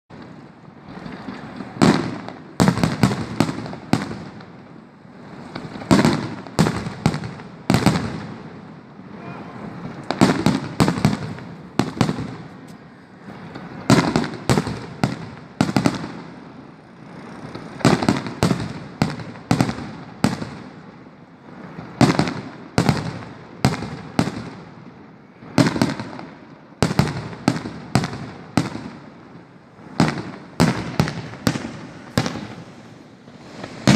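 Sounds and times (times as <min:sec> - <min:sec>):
fireworks bangs: 0:00.1 - 0:33.9.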